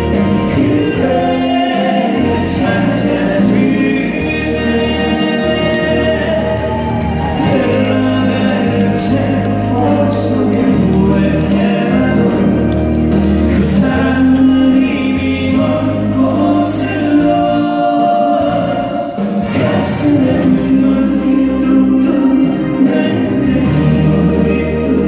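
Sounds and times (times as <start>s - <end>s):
live music with singing: 0.0s - 25.0s.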